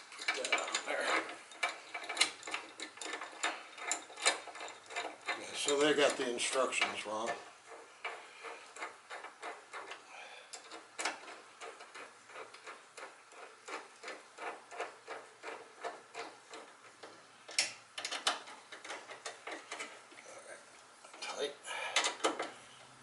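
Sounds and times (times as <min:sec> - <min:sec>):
hand wrench ratcheting: 0:00.1 - 0:20.2, 0:22.0 - 0:22.6.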